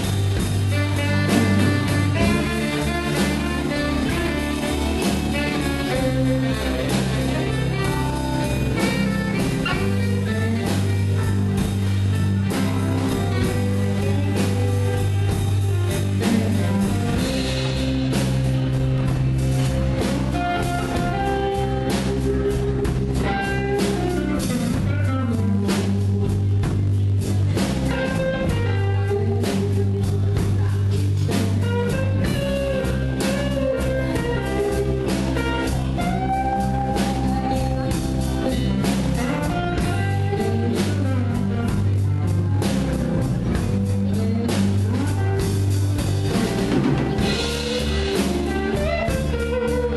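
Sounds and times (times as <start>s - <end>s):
blues band playing: 0.0s - 49.9s.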